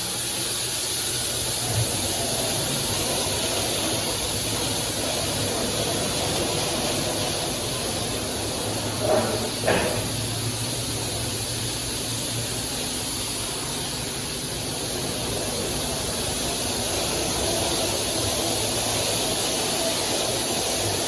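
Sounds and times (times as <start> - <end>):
car wash spraying water: 0.0 - 21.0.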